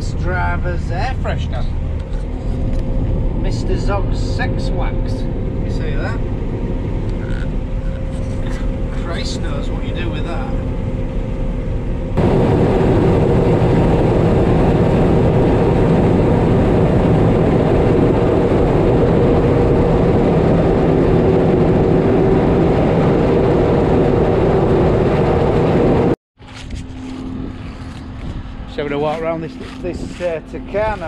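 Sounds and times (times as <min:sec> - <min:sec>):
combine harvester droning: 0:00.0 - 0:31.0
low machine hum: 0:00.0 - 0:31.0.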